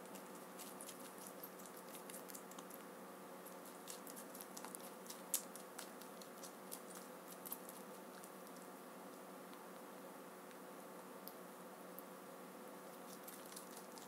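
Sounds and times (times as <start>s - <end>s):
faint hum: 0.0s - 14.0s
rabbit chewing: 0.0s - 14.0s.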